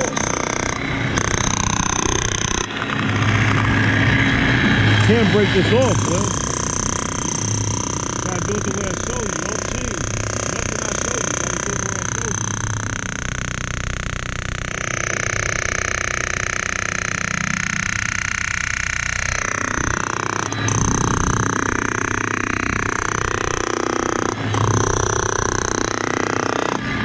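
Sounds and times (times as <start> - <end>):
loud machine noise: 0.0 - 27.0.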